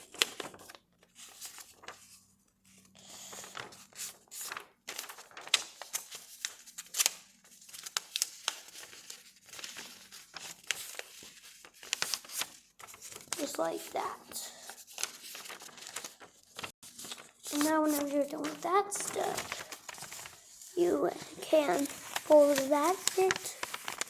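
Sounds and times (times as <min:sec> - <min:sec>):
paper folding and crinkling: 0:00.0 - 0:24.0.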